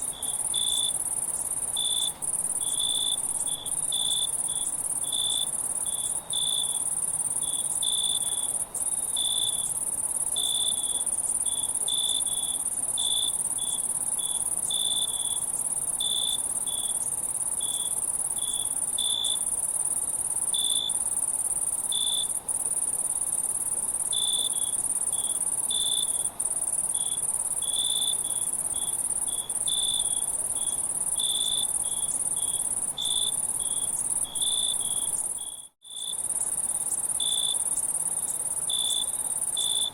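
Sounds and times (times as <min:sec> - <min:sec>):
insect high-pitched trill: 0:00.0 - 0:39.9.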